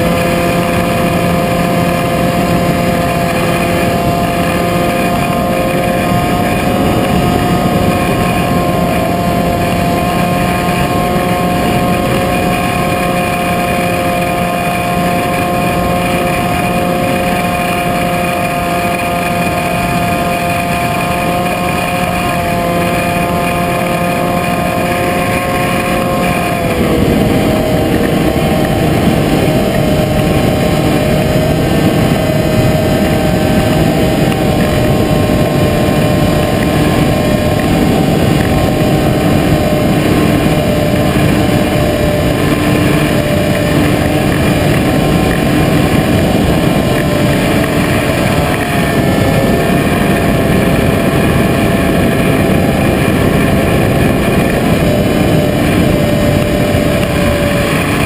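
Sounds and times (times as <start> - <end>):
model aircraft motor whine: 0.0 - 58.0
wind rush: 0.0 - 58.0.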